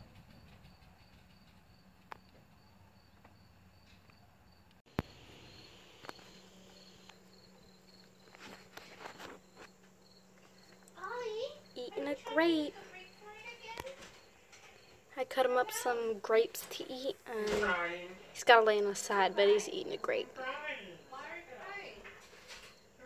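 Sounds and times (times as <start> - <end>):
cricket chirping: 0.2 - 23.0.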